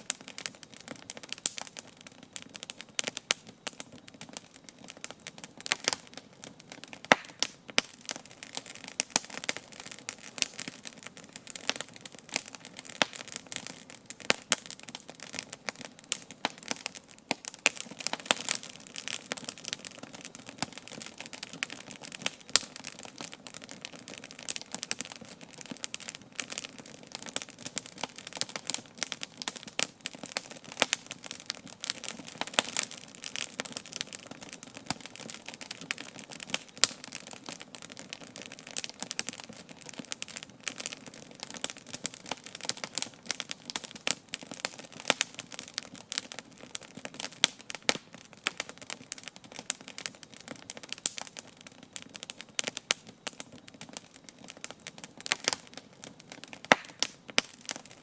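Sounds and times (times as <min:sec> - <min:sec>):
campfire crackling and popping: 0:00.0 - 0:58.0
fire hissing: 0:00.0 - 0:58.0.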